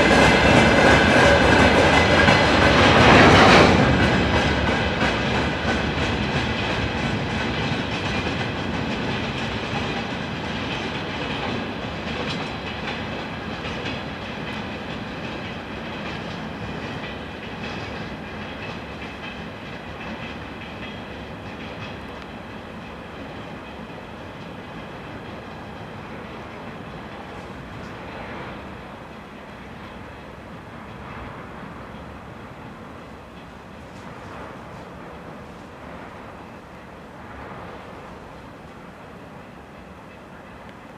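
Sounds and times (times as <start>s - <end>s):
train wheels clacking over rail joints: 0.0s - 37.0s.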